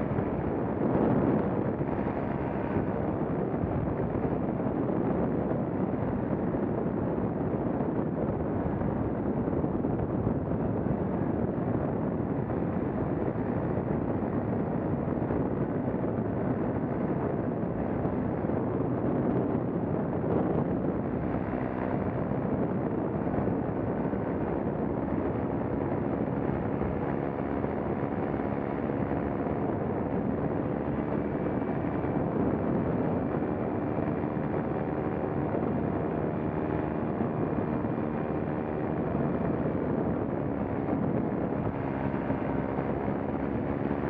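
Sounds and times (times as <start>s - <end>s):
paramotor engine and propeller: 0.0s - 44.0s
wind on microphone: 0.0s - 44.0s.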